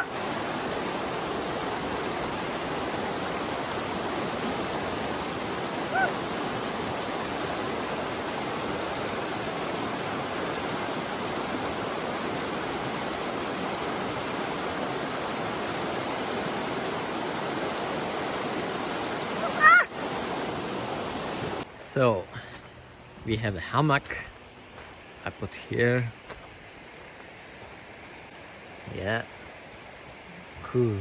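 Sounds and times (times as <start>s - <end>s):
river rushing over its bed: 0.0s - 31.0s.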